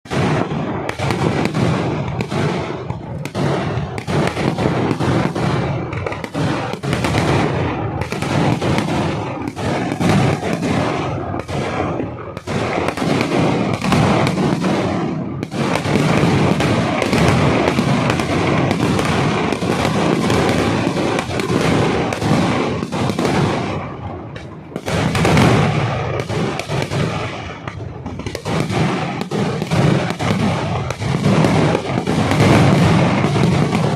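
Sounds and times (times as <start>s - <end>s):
firecrackers barrage: 0.0s - 33.9s.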